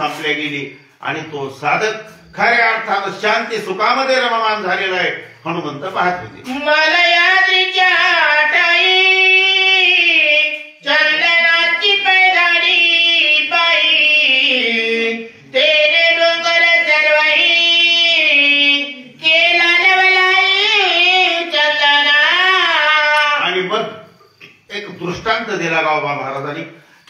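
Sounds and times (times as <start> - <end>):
man singing devotional melody: 1.8 - 23.9.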